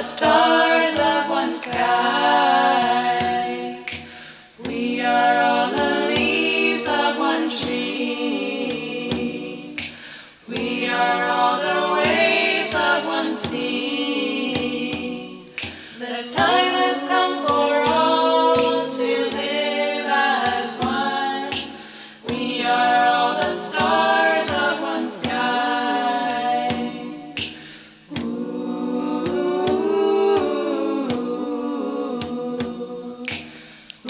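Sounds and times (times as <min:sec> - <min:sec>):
clicking beat: 0:00.0 - 0:34.0
voices singing in harmony: 0:00.0 - 0:34.0.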